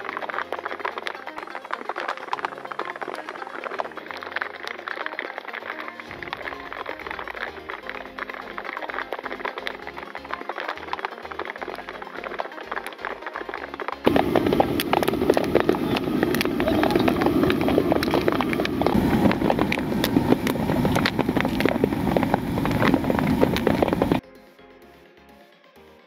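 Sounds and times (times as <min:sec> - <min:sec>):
popcorn popping in hot oil: 0:00.0 - 0:24.2
faint music: 0:00.0 - 0:26.0.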